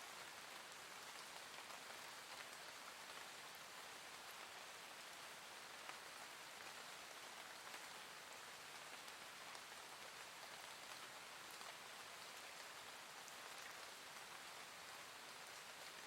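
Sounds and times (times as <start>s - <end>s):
gentle rain falling: 0.0s - 16.0s
patter of raindrops: 0.0s - 16.0s.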